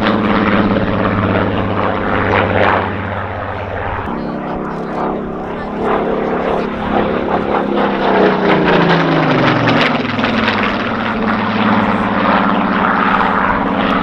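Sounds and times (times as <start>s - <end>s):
propeller plane passing: 0.0s - 14.0s.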